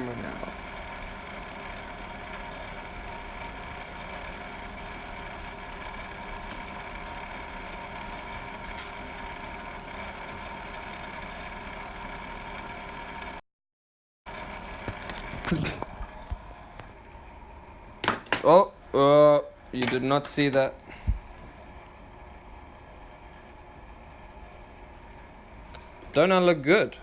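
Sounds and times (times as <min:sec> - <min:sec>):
steady machine hum: 0:00.0 - 0:13.4, 0:14.3 - 0:27.0.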